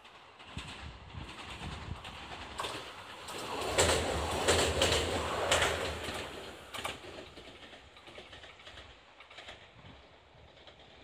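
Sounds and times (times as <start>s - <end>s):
electric train passing: 0.0s - 11.0s
wheels clacking over rail joints: 0.0s - 11.0s.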